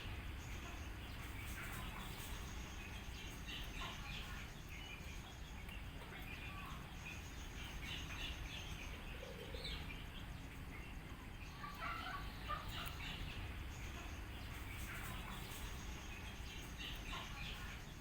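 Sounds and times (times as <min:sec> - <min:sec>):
birds chirping: 0:00.0 - 0:18.0
low outdoor rumble: 0:00.0 - 0:18.0.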